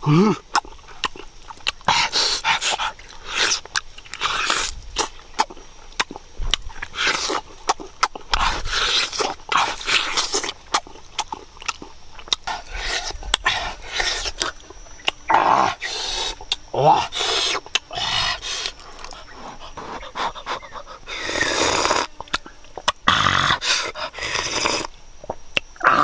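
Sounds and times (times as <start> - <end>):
mouth clicks: 0.0 - 26.0
person crunching and chewing: 0.1 - 26.0
lip smacks: 0.4 - 25.8.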